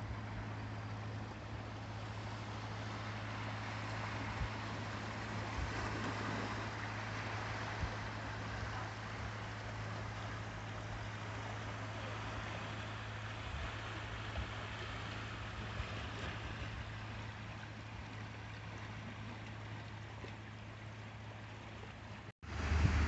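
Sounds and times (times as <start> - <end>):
constant low hum: 0.0 - 23.0
seawater washing around rocks: 1.6 - 23.0.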